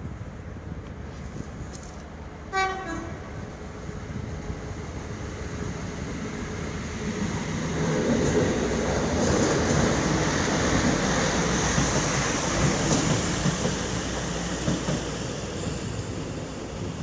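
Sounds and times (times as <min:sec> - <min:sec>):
passenger train passing: 0:00.0 - 0:17.0.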